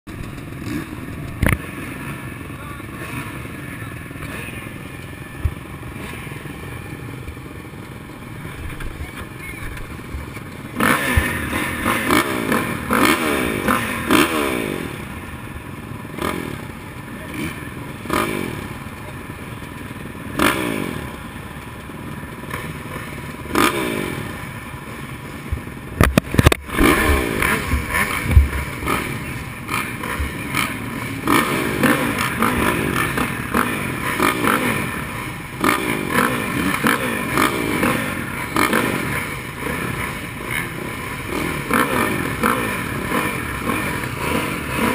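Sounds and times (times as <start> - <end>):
dirt bikes revving: 0.1 - 44.9.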